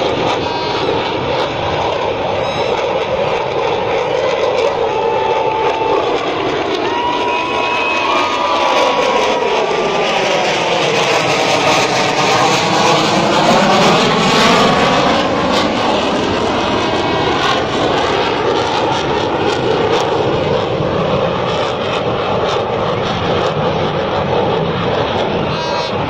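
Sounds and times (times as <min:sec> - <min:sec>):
fighter jet passing overhead: 0:00.0 - 0:26.0.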